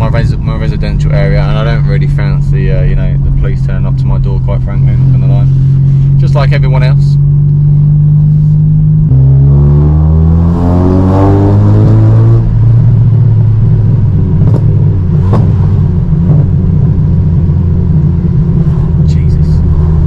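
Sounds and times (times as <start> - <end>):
car engine through loud exhaust: 0.0 - 20.0.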